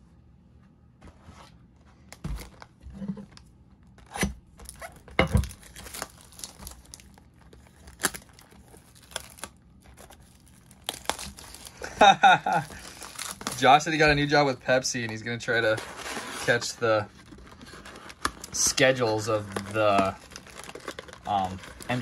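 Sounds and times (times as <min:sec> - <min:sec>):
trading cards and boxes handled: 0:03.9 - 0:22.0
packaging tearing and crinkling: 0:04.0 - 0:22.0.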